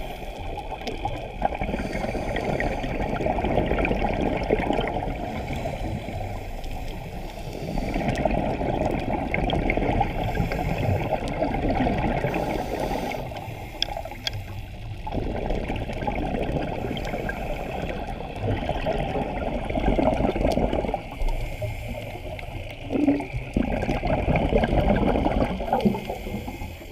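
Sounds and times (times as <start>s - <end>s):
underwater bubbling and gurgling: 0.0s - 26.9s.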